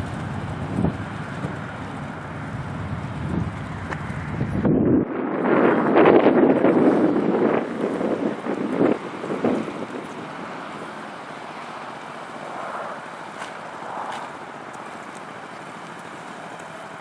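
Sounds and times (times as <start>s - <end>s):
motorcycles running: 0.0s - 17.0s
steady rushing background: 0.0s - 17.0s.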